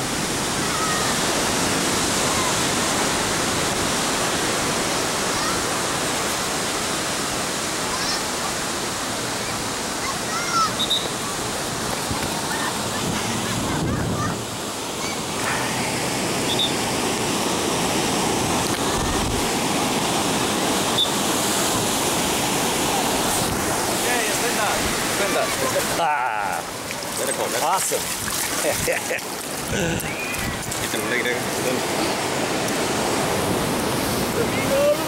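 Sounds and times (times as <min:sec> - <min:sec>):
surf: 0:00.0 - 0:35.0.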